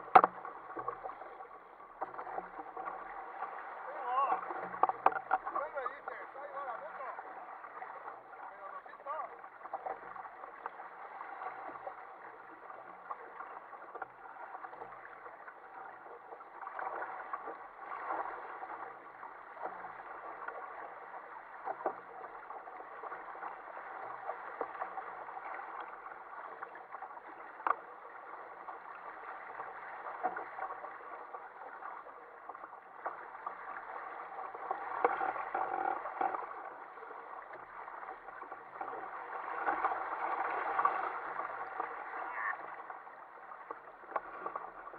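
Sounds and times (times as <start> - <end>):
wave slapping: 0.0 - 13.8, 14.4 - 44.9
water rushing along a hull: 0.0 - 44.9.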